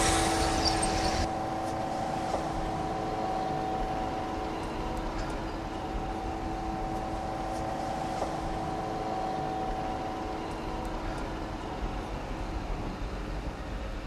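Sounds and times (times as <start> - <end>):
electric train hum: 0.0 - 14.0
wheels rumbling on rails: 0.0 - 14.0.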